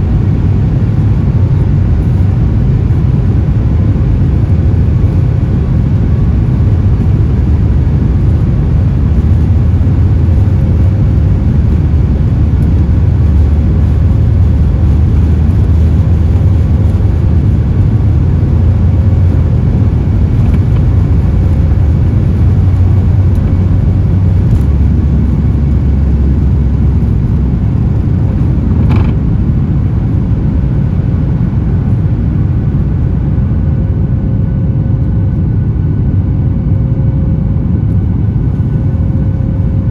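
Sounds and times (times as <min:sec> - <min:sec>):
jet engines rumbling on takeoff: 0:00.0 - 0:39.9.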